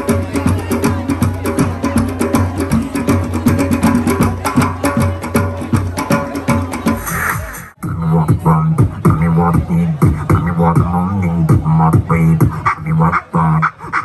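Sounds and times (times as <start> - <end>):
beatboxing through a microphone: 0.0 - 14.0.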